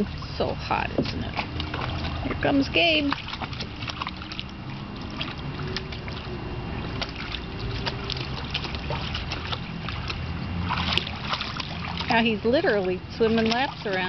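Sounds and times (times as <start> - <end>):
low steady rumble: 0.0 - 14.0
water splashing in a pool: 0.0 - 14.0.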